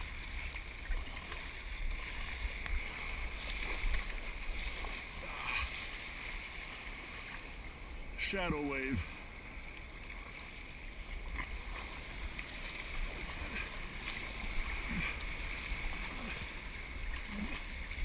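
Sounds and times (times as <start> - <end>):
wind rumbling on microphone: 0.0 - 8.3, 9.0 - 18.0
ocean surf and moving water: 0.0 - 18.0.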